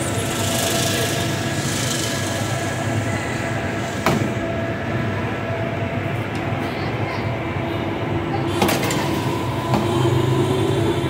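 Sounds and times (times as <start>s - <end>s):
mechanical hum and rumble: 0.0s - 11.0s.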